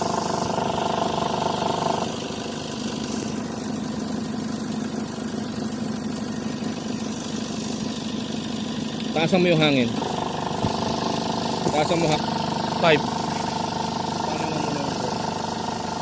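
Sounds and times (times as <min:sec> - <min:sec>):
air conditioning compressor running: 0:00.0 - 0:16.0
car engine idling: 0:00.0 - 0:16.0.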